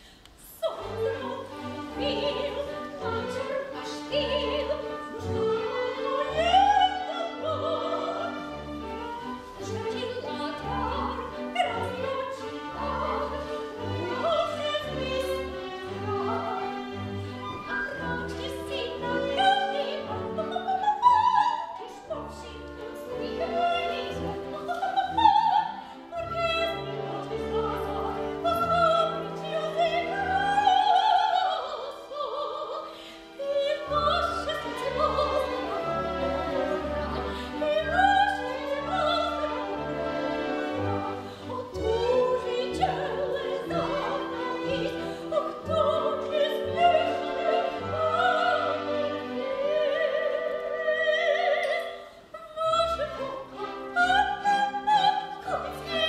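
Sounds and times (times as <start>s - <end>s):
soprano singing with vibrato: 0.0s - 56.0s
orchestral accompaniment: 0.6s - 56.0s.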